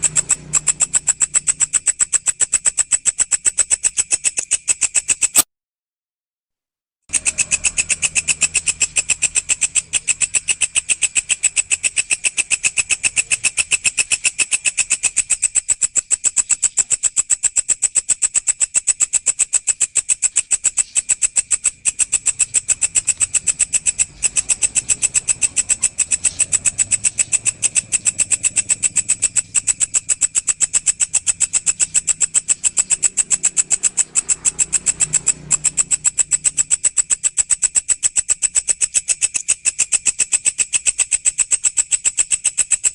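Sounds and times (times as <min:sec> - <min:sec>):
grasshopper shrill chirring: 0:00.0 - 0:05.4, 0:07.1 - 0:42.9.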